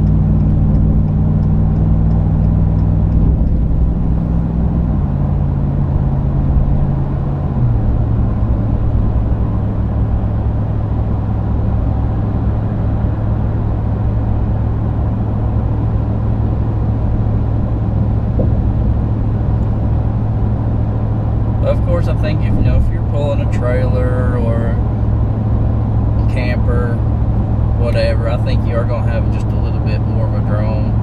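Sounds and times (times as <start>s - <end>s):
truck exhaust droning at speed: 0.0s - 31.0s.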